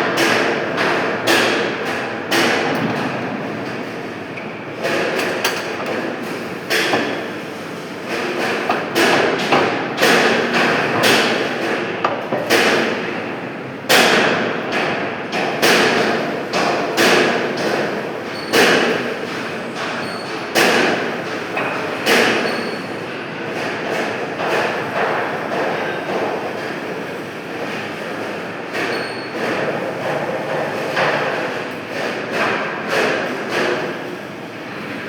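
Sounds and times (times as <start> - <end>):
machine shop noise: 0.0 - 35.0.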